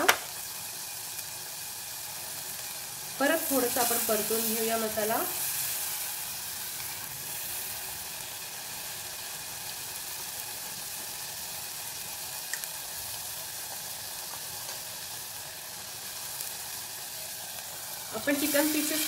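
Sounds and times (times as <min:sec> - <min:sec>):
paste sizzling in hot fat: 0:00.0 - 0:19.0.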